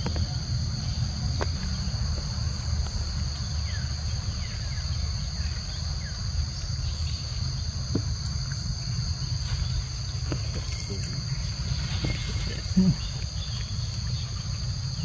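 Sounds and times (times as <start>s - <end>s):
high drone of insects: 0.0s - 15.0s
low rumble: 0.0s - 15.0s.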